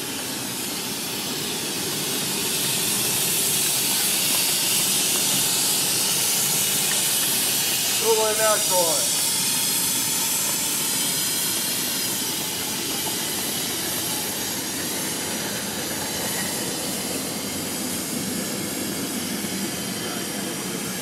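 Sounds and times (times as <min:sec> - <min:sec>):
steam locomotive venting steam: 0:00.0 - 0:21.0.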